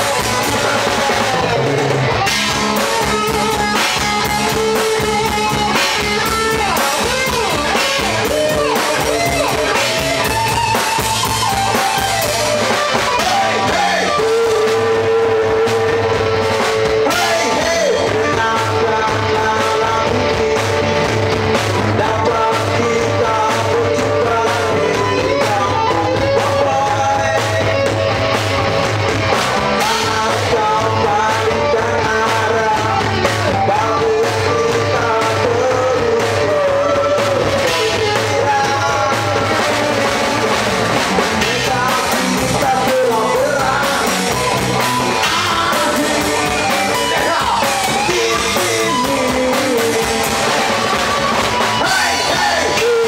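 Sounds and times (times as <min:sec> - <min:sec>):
bass guitar: 0:00.0 - 0:53.0
drum kit: 0:00.0 - 0:53.0
electric guitar melody: 0:00.0 - 0:53.0.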